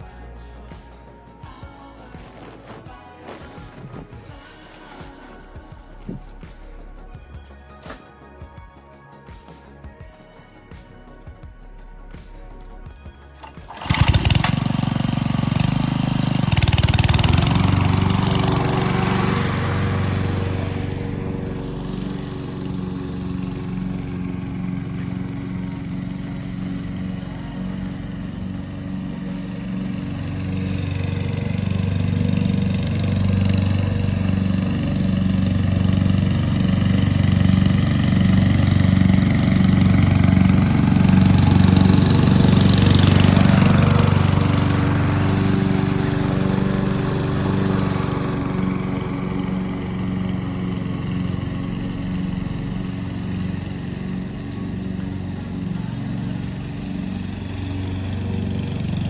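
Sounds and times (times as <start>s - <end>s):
lawn mower engine running: 0.0s - 8.3s, 9.6s - 59.0s.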